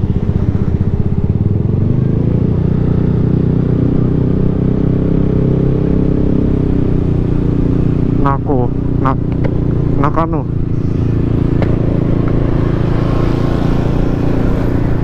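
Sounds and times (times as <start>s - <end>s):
scooter engine droning: 0.0s - 15.0s.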